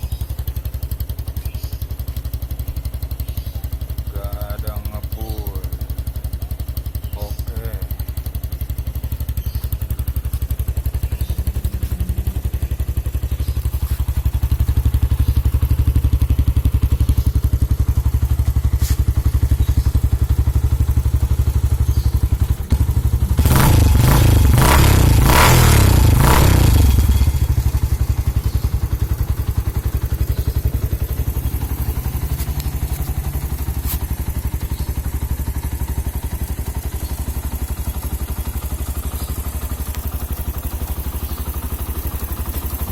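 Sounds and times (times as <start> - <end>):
motorcycle engine idling: 0.0 - 42.9.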